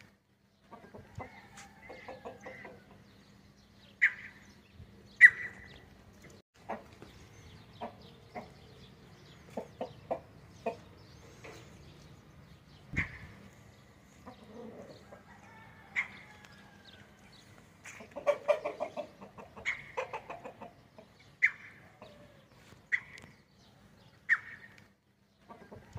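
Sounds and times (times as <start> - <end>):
roosters clucking: 0.6 - 3.2, 5.2 - 23.4, 24.2 - 25.9.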